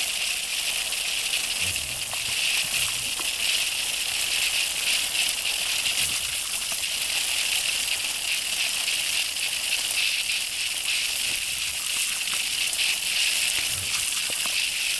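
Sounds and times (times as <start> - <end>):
hose spraying water on ground: 0.0 - 14.9.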